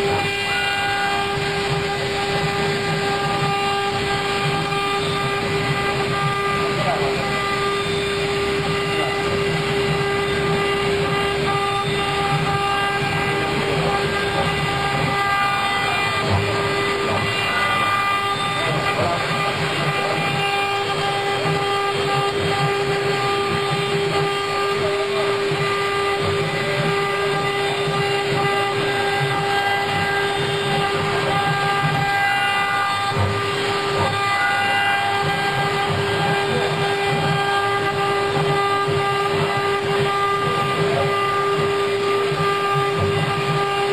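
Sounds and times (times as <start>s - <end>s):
bit rasping into wood: 0.0s - 43.9s
router spindle high whine: 0.0s - 43.9s.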